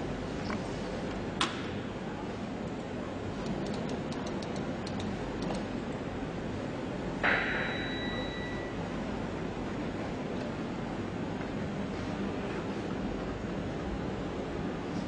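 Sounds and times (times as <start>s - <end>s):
machinery and ventilation hum: 0.0s - 15.0s.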